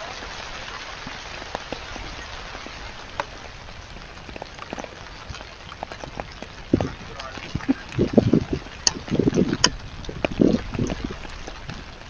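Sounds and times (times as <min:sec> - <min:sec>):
raindrops striking close: 0:00.0 - 0:12.0
steady rain: 0:00.0 - 0:12.0.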